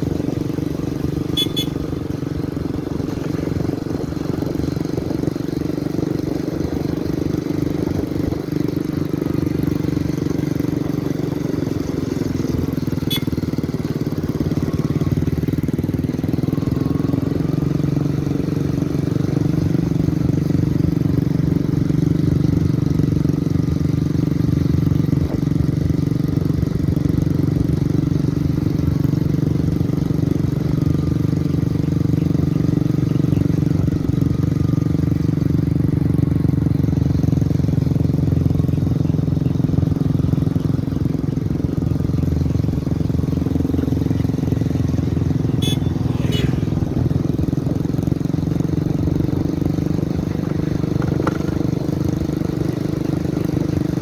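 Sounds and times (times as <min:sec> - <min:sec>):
small engines running: 0:02.4 - 0:54.0.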